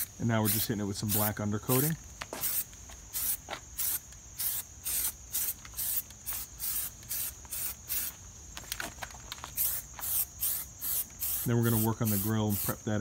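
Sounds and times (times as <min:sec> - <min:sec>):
aerosol can spraying: 0:00.0 - 0:01.8, 0:02.4 - 0:08.2, 0:09.5 - 0:12.9.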